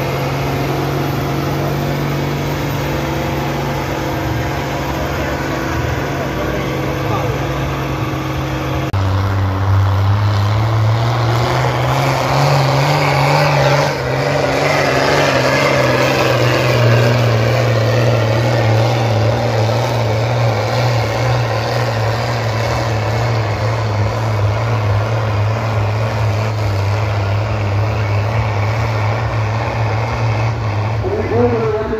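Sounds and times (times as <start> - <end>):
tractor diesel engine droning: 0.0 - 31.9.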